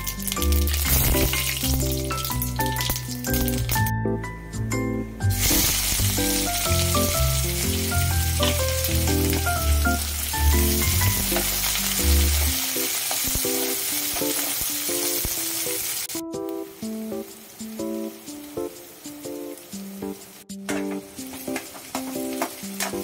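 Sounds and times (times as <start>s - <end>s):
onions sizzling in hot oil: 0.0s - 3.9s, 5.3s - 23.0s
melodic background music: 0.0s - 23.0s.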